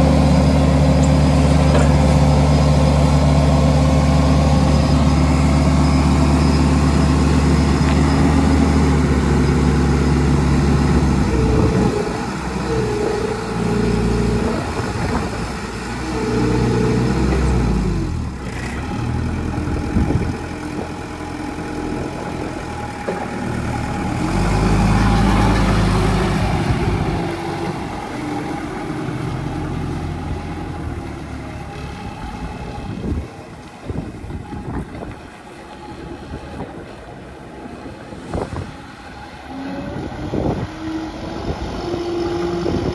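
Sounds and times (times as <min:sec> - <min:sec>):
diesel forklift engine: 0:00.0 - 0:42.9.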